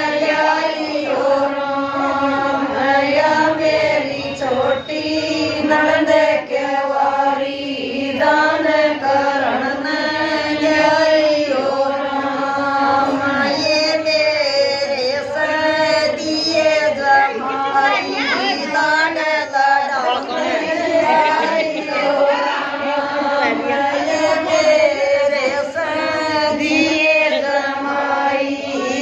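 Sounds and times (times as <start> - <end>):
women singing in unison: 0.0 - 29.0.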